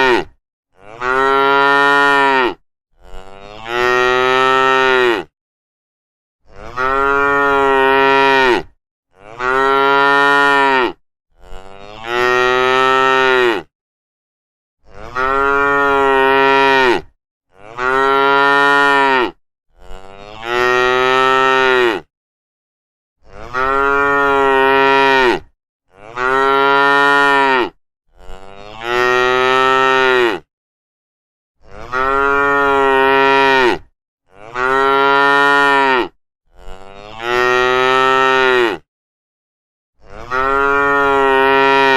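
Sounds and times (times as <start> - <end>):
cows mooing: 0.0 - 5.3, 6.5 - 13.7, 14.9 - 22.1, 23.3 - 30.5, 31.7 - 38.8, 40.1 - 41.9.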